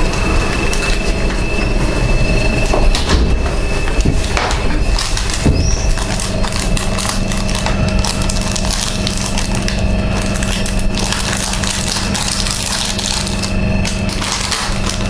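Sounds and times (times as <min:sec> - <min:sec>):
crackling handling noise: 0:00.0 - 0:15.0
steady electrical hum: 0:00.0 - 0:15.0.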